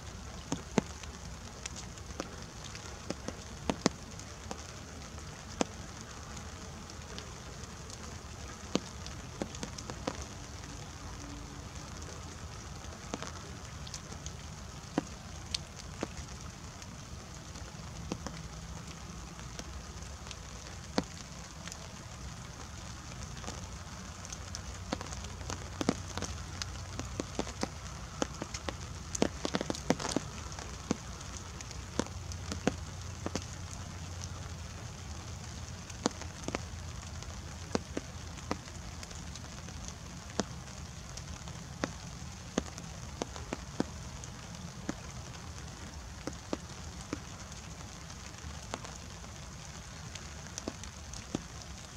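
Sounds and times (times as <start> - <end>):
raindrops pattering: 0.0 - 51.9.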